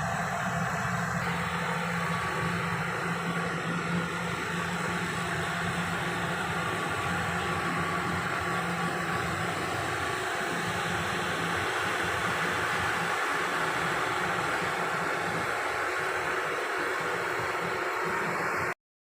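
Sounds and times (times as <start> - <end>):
fan blast rushing: 0.0 - 18.7
engine hum: 0.0 - 18.8.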